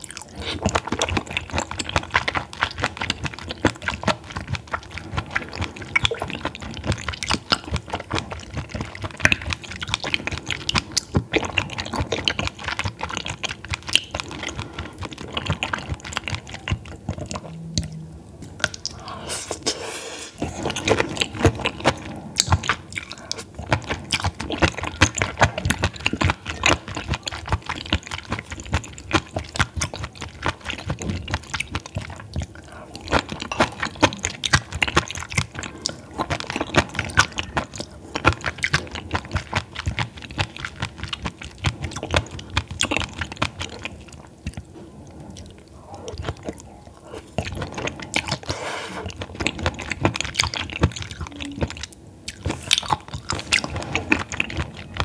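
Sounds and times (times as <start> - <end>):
close chewing mouth clicks: 0.0 - 55.0.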